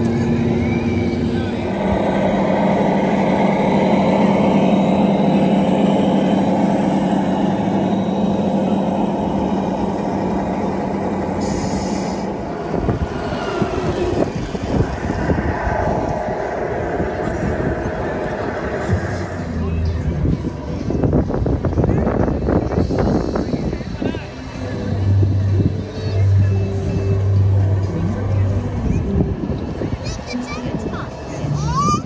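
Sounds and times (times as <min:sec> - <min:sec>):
simulated truck engine hum: 0:00.0 - 0:32.0.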